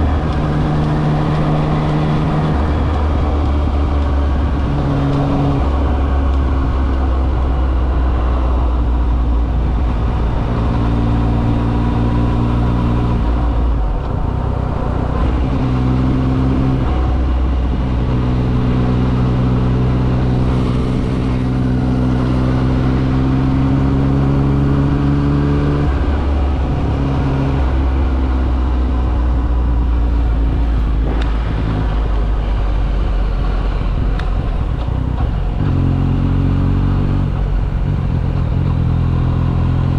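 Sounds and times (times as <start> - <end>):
wind rushing: 0.0 - 36.4.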